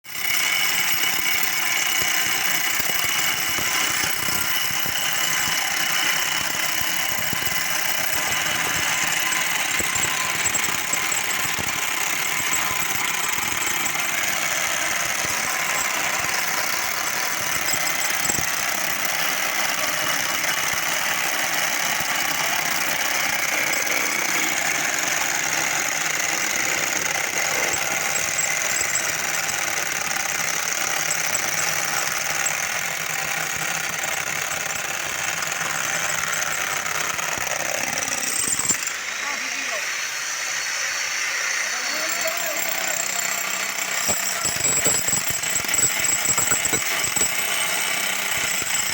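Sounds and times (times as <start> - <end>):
concrete cutting machine grinding: 0.0 - 48.9.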